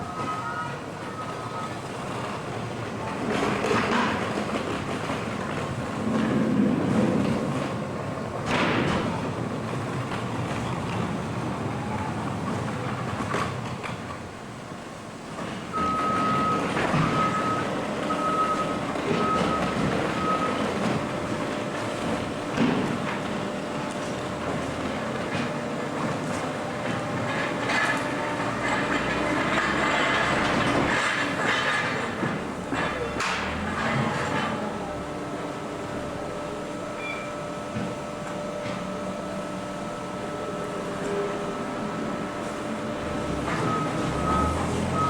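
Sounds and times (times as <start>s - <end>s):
baler and conveyor clattering: 0.0s - 45.0s.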